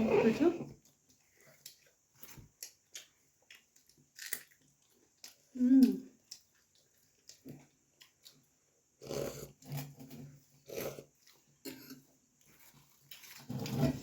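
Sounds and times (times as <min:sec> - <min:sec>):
person chewing food: 0:00.8 - 0:13.4.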